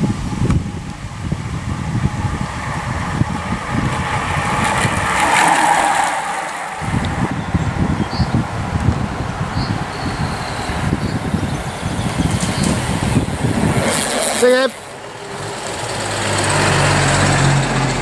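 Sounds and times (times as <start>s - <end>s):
bicycle tyres whooshing past: 0.0s - 18.0s
wind buffeting microphone: 0.0s - 18.0s.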